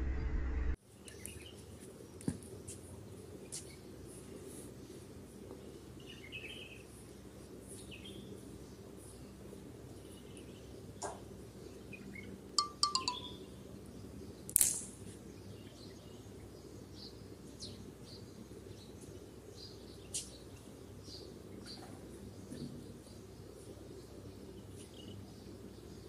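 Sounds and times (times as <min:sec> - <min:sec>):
small birds chirping: 0:00.9 - 0:26.0.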